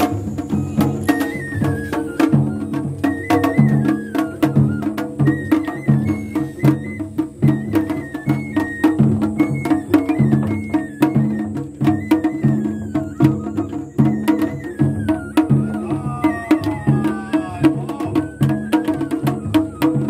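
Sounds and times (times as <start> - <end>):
drumming: 0.0 - 20.0
high flute melody: 0.0 - 20.0.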